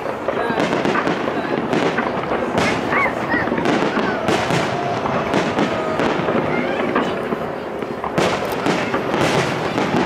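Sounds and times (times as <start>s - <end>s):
firework crackle: 0.0s - 10.0s.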